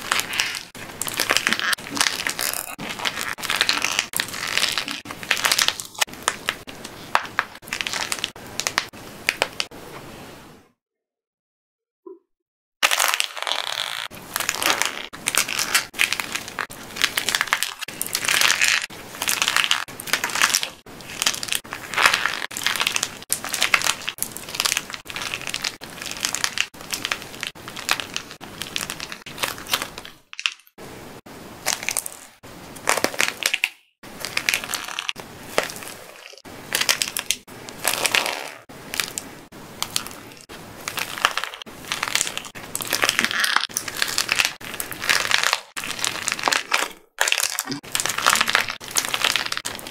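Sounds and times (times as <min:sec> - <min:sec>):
dried clay cracking and crunching: 0:00.0 - 0:09.7, 0:12.8 - 0:30.7, 0:31.6 - 0:49.9.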